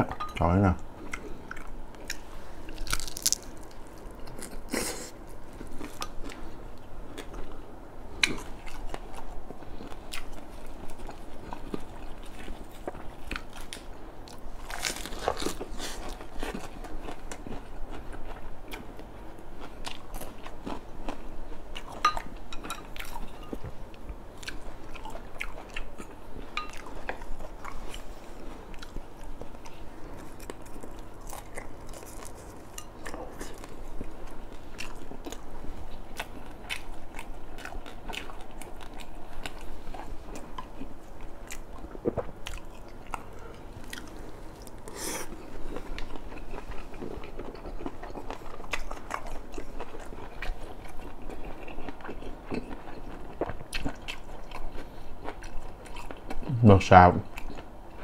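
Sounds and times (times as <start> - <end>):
person chewing crunchy food: 0.4 - 56.6, 57.2 - 58.0.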